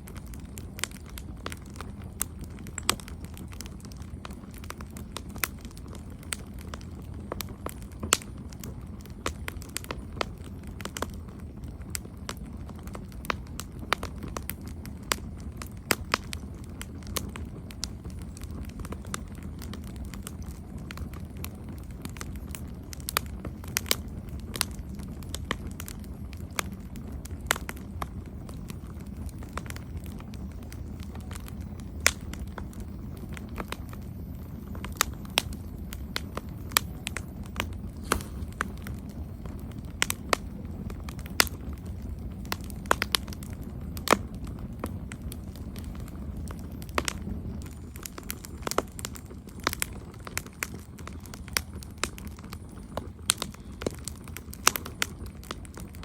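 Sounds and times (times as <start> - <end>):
campfire crackling: 0.0 - 56.0
low rumble: 0.0 - 56.0.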